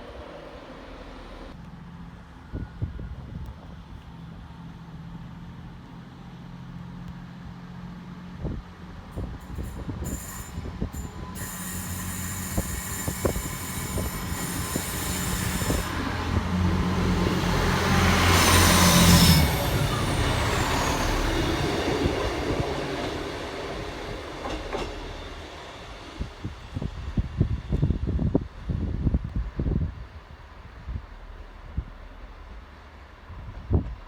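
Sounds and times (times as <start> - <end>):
train passing: 0.0 - 2.7, 3.8 - 34.0.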